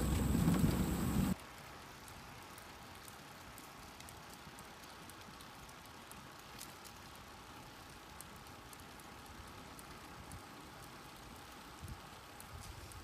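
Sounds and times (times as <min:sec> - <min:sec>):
bicycles rolling on road: 0:00.0 - 0:13.0.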